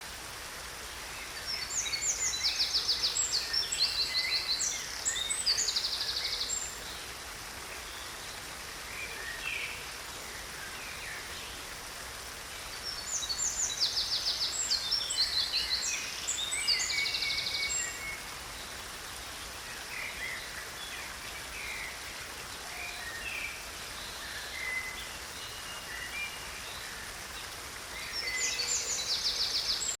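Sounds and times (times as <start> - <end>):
background hiss: 0.0 - 30.0.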